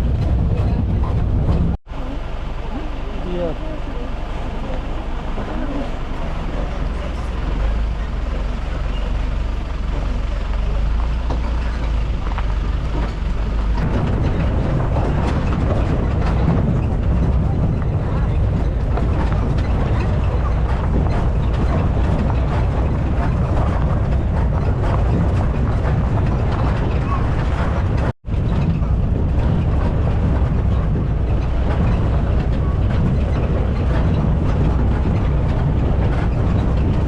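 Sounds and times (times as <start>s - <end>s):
wind on microphone: 0.0s - 3.2s, 3.8s - 37.0s
vehicle engine rumbling: 0.0s - 37.0s.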